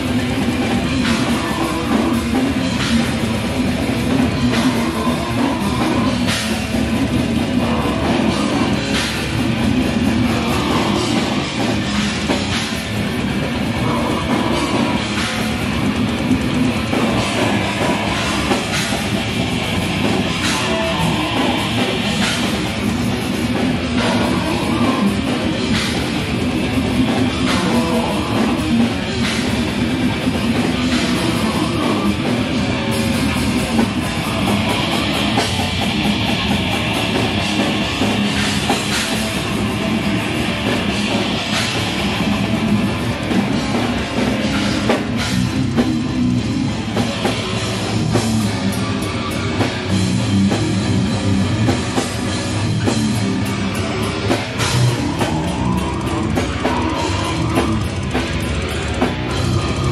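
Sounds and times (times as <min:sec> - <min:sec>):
heavy rock music: 0:00.0 - 0:59.9.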